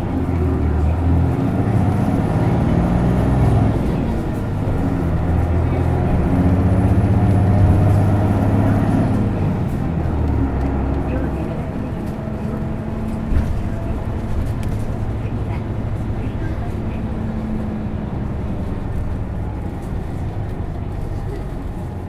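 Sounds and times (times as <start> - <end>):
diesel bus engine accelerating: 0.0 - 22.0.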